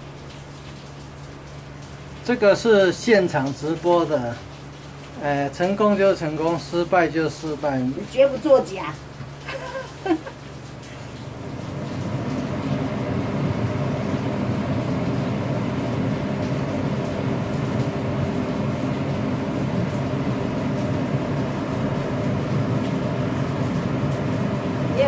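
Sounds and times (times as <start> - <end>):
steady low roar with hum: 0.0 - 25.0.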